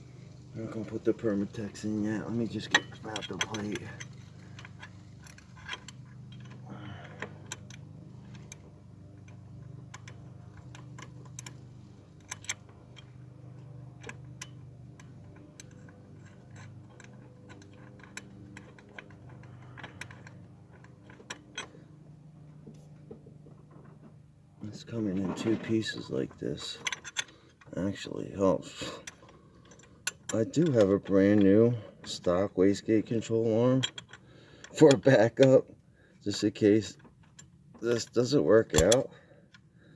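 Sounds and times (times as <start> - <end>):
steady low hum: 0.0 - 39.9
metallic clicks of bolts handled: 0.4 - 21.9, 25.2 - 27.9, 28.6 - 35.6, 36.3 - 39.7.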